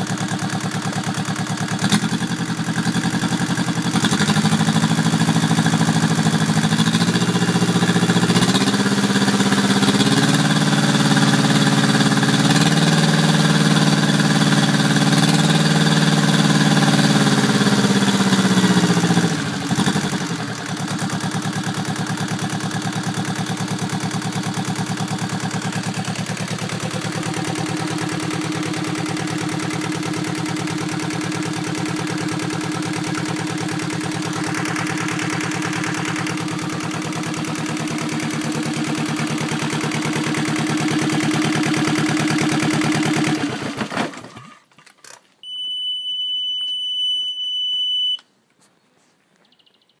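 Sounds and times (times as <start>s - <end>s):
diesel engine running: 0.0s - 44.3s.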